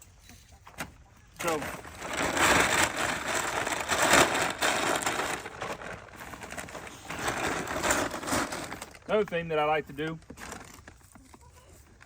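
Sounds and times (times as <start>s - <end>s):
rustling and crinkling: 0.0s - 12.0s.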